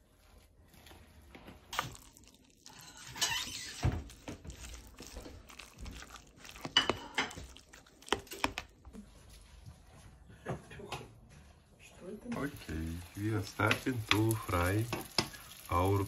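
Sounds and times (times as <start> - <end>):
spoon stirring batter in bowl: 0.3 - 10.4, 12.3 - 16.0.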